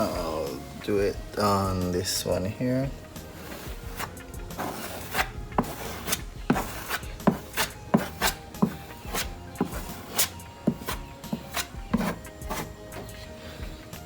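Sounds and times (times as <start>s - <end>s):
filler spreader scraping on bumper: 0.0s - 14.0s.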